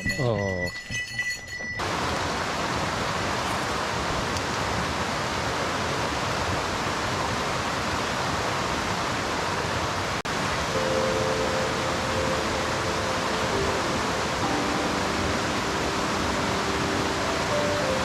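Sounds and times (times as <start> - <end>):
mountain stream flowing: 1.8 - 18.0.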